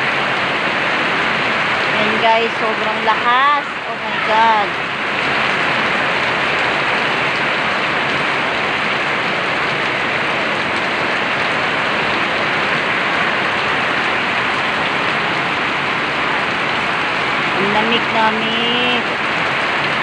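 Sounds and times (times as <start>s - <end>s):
heavy rain on concrete: 0.0s - 20.0s.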